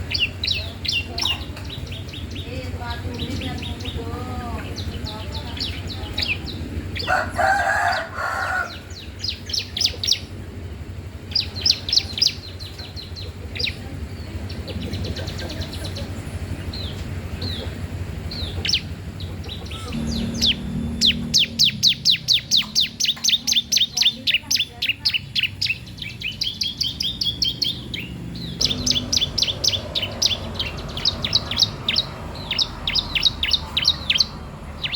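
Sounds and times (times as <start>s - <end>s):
songbird singing high chirps: 0.0s - 34.9s.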